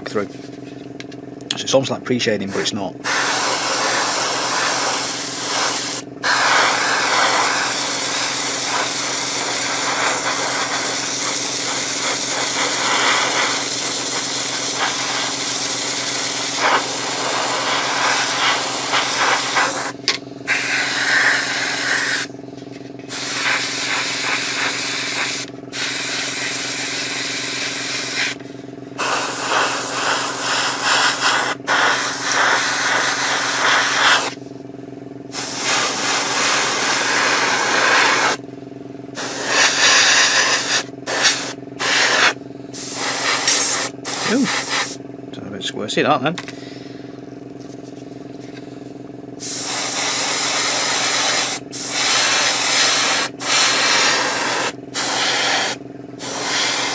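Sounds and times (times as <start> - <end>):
steady hum: 0.0 - 56.9
airbrush hissing: 2.5 - 22.3, 23.1 - 28.4, 29.0 - 34.4, 35.3 - 38.4, 39.2 - 45.0, 49.4 - 56.9.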